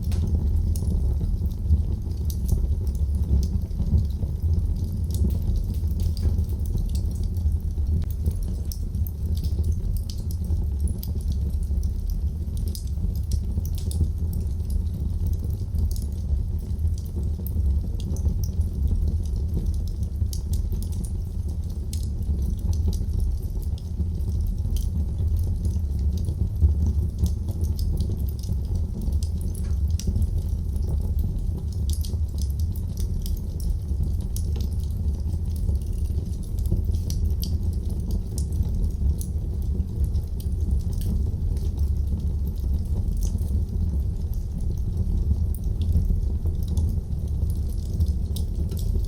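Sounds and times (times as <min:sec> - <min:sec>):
fire crackles and pops: 0:00.0 - 0:49.0
fire flames rumbling: 0:00.0 - 0:49.0.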